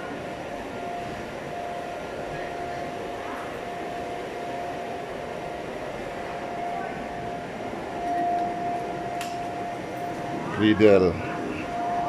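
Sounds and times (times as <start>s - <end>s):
machinery whirring: 0.0s - 12.0s
thin steady whine: 0.0s - 12.0s.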